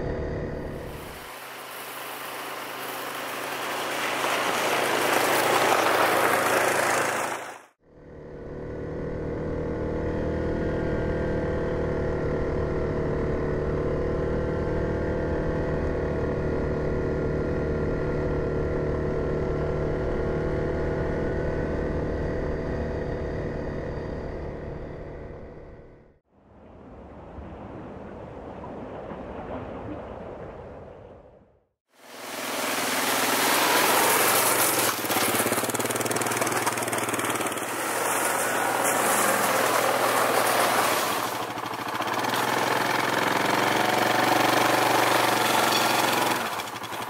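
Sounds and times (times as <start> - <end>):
atv engine cruising: 0.0 - 26.0, 32.2 - 47.0.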